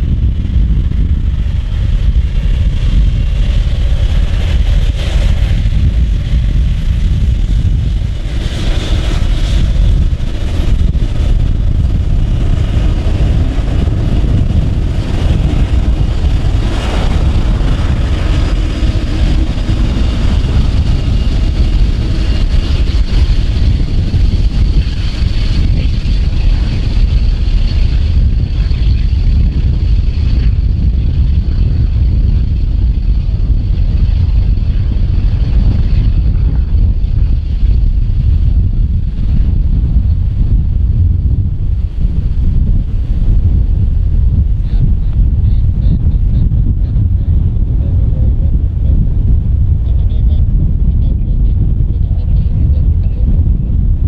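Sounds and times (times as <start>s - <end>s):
faint high engine whine: 0.0s - 54.0s
jet engines rumbling: 0.0s - 54.0s.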